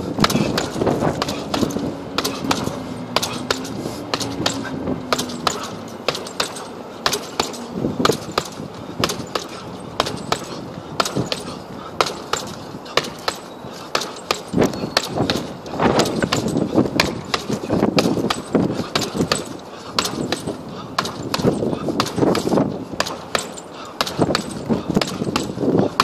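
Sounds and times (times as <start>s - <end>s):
boxing gloves hitting punching bag: 0.0s - 26.0s.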